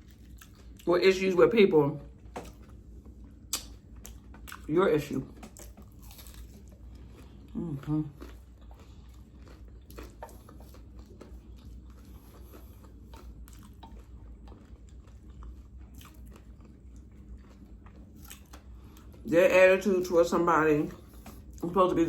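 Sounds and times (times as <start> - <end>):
person chewing food: 0.0 - 0.9, 2.0 - 19.3, 20.8 - 21.7.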